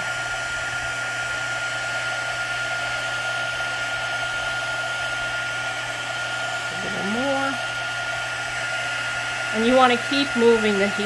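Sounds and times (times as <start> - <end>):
heat tool fan whining: 0.0 - 11.0.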